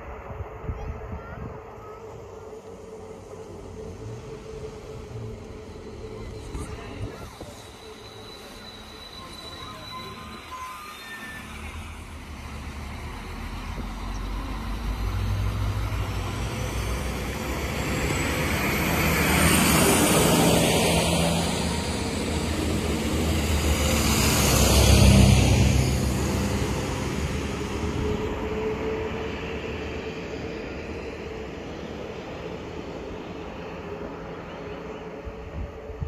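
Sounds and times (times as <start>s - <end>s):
diesel train engine: 0.0s - 36.0s
wheels rushing on rail: 0.0s - 36.0s.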